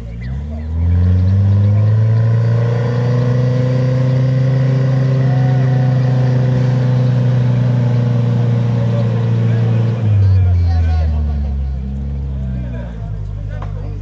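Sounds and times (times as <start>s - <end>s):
off-road vehicle engine revving hard: 0.0s - 13.6s.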